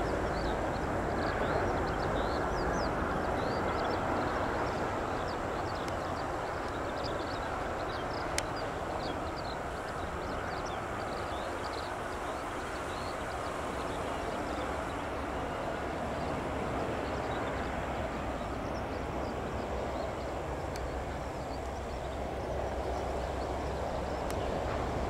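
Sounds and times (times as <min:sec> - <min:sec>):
jet airliner engine rush: 0:00.0 - 0:25.0.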